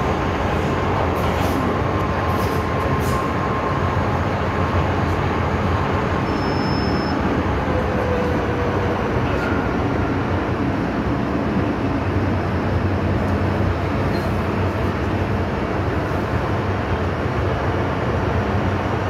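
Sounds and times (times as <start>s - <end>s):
faint train whines: 0.0s - 19.0s
train rumbling: 0.0s - 19.0s.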